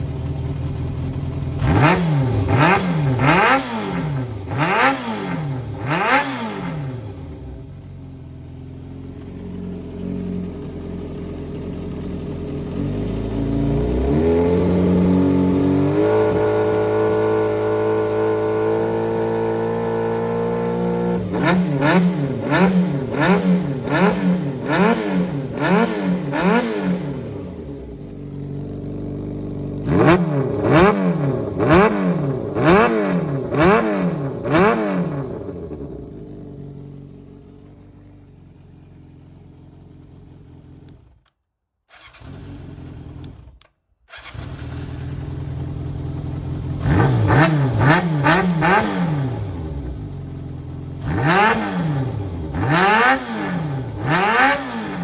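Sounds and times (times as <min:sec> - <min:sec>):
motorcycle engine revving and idling: 0:00.0 - 0:41.3, 0:41.9 - 0:55.0.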